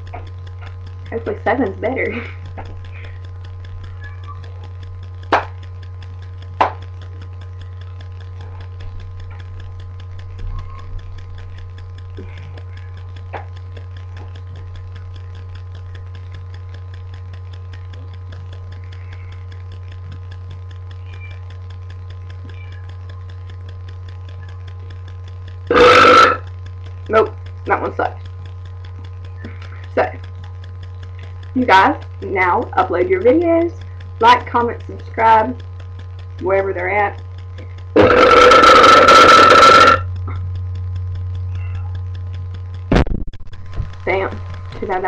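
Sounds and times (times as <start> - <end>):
low electrical hum: 0.0 - 45.0
sharp clicks: 0.0 - 45.0.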